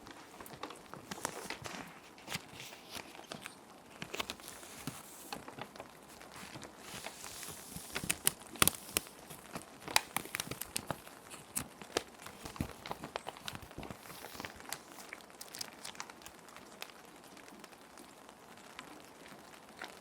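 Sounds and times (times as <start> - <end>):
plastic sheet protectors crinkling: 0.0 - 16.9
soft rain hiss: 0.0 - 20.0.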